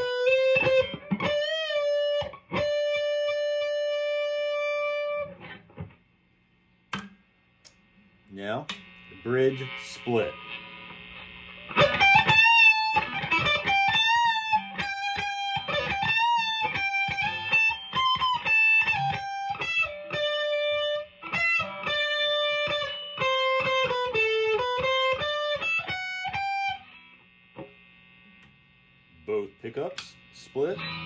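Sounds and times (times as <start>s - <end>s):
distorted electric guitar lead: 0.0s - 6.0s, 8.3s - 31.0s.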